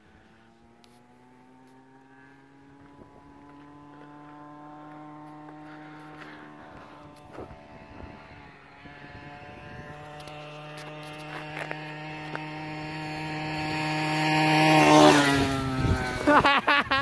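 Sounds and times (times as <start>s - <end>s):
small engine passing by: 0.0s - 17.0s.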